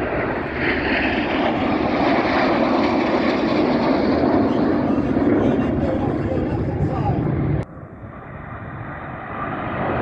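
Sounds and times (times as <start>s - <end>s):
jet roar: 0.0s - 10.0s.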